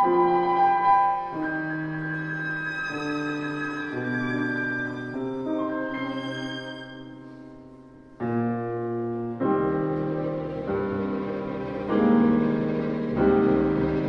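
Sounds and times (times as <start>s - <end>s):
string orchestra with piano: 0.0s - 14.0s.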